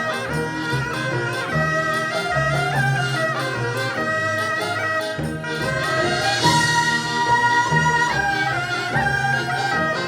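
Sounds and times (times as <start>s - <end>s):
traditional orchestra slow melody: 0.0s - 10.0s.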